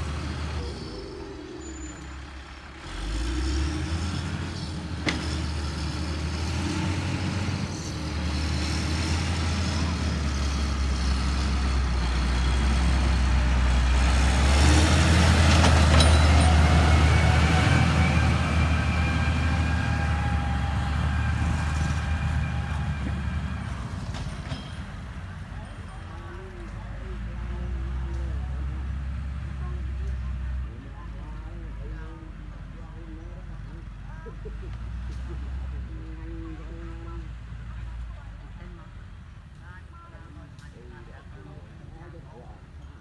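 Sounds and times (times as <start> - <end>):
heavy diesel machinery running: 0.0 - 43.0.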